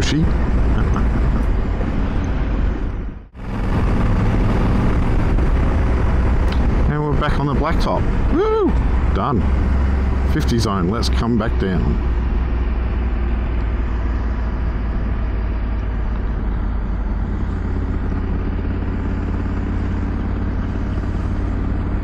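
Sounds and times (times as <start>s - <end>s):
motorcycle engine rumbling: 0.0s - 22.0s
road and wind noise: 0.0s - 22.0s.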